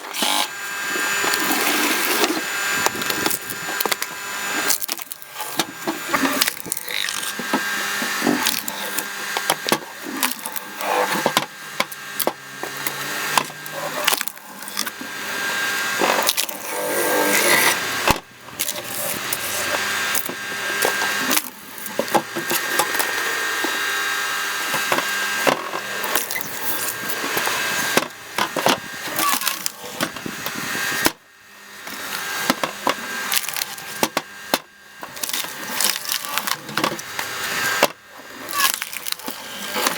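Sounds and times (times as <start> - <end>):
wood cracking and splintering: 0.0 - 23.9, 24.6 - 31.2, 31.8 - 39.9.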